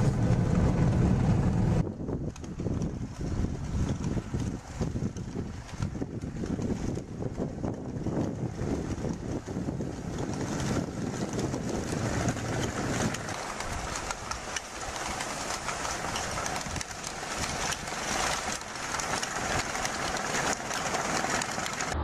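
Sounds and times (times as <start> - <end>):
rattling clicks from tracks: 0.0 - 22.0
snowcat engine running: 0.0 - 22.0.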